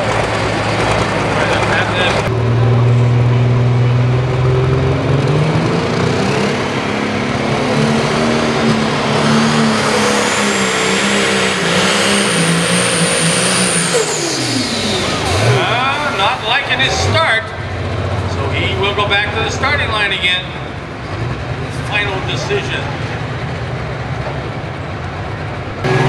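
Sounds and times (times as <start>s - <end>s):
high turbo whine: 0.0s - 26.0s
tractor engine under full load: 0.0s - 26.0s.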